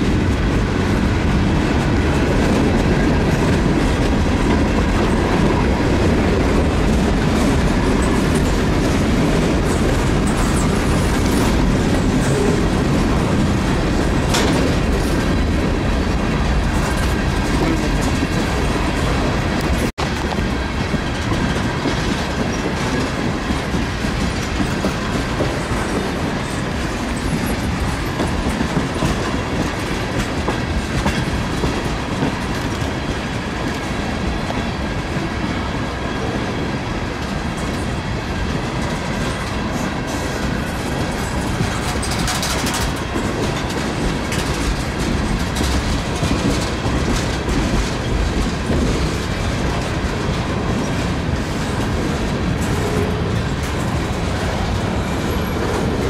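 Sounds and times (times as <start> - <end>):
wheels clicking over rail joints: 0.0 - 35.2, 37.2 - 56.0
freight train rolling past: 0.0 - 56.0.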